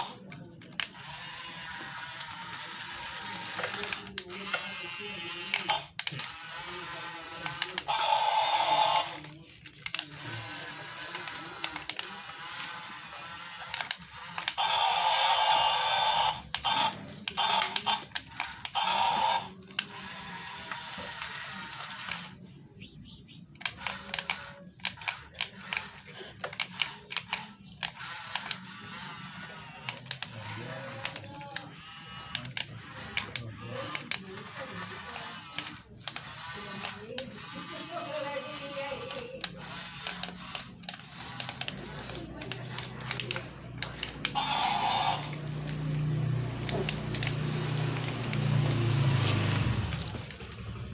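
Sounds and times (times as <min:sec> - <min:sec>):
sharp clicks: 0:00.0 - 0:50.9
small electric motors whining: 0:00.0 - 0:50.9.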